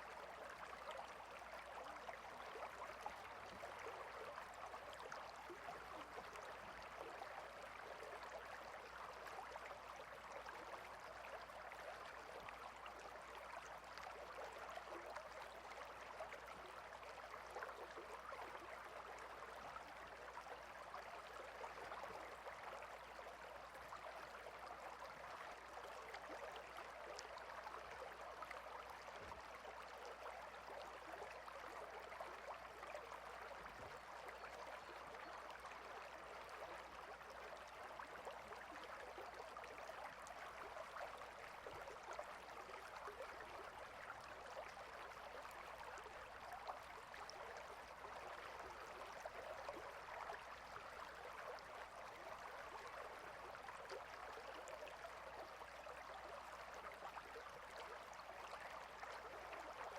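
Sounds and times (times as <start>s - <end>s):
small stream babbling: 0.0s - 59.9s.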